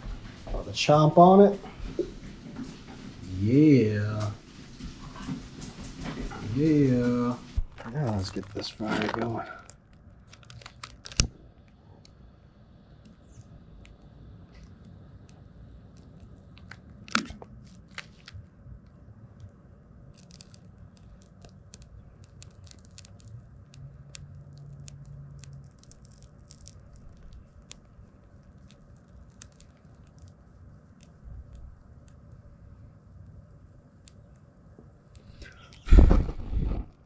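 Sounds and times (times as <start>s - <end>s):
campfire crackling and snapping: 0.0s - 12.2s, 13.0s - 37.0s.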